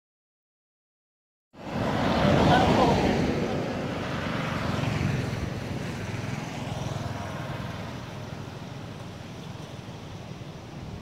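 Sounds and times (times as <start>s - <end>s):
passing road traffic: 1.6s - 11.0s
wind rumble on microphone: 1.6s - 11.0s.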